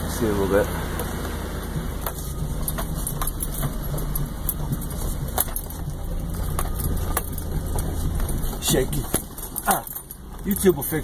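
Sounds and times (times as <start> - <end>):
knocks and rattles in vehicle: 0.0 - 11.0
vehicle engine and tyres rumbling: 0.0 - 11.0.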